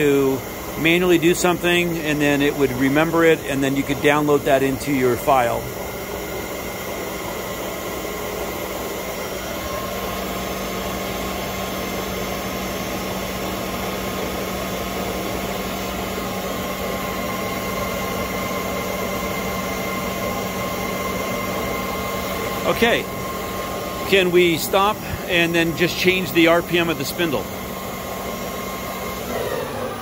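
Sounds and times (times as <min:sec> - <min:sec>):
lathe humming with whine: 0:00.0 - 0:30.0.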